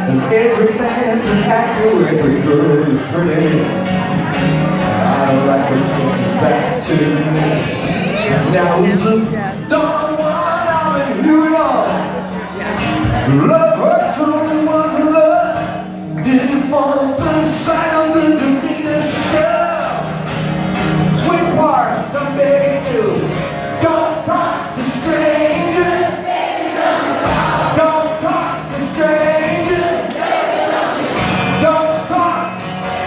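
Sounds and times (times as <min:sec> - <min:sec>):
man singing: 0:00.0 - 0:03.8, 0:04.9 - 0:20.2, 0:21.1 - 0:26.2, 0:27.5 - 0:30.0, 0:31.6 - 0:32.6
rock band accompaniment: 0:00.0 - 0:33.0.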